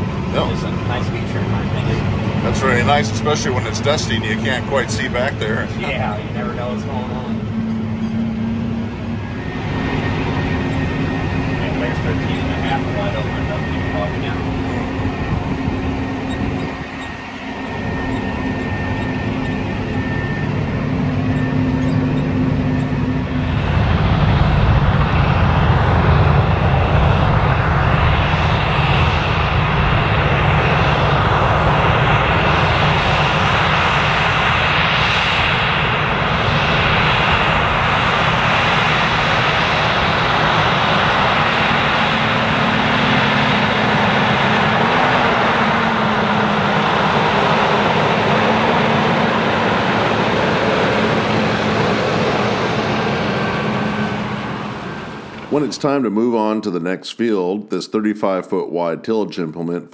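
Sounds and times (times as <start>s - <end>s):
tractor diesel engine drone: 0.0s - 56.2s.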